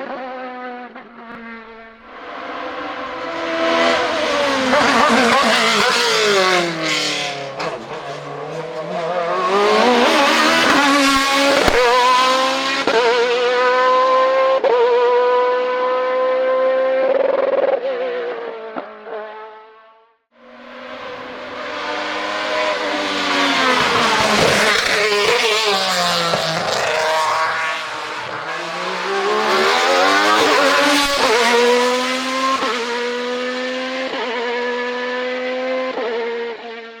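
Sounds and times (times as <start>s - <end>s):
racing car engine at high revs: 0.0s - 37.0s.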